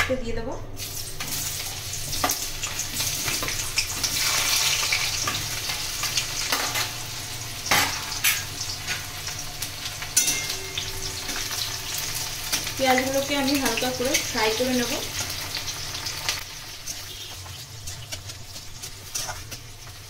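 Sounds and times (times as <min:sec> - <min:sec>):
onions sizzling in hot oil: 0:00.8 - 0:20.0.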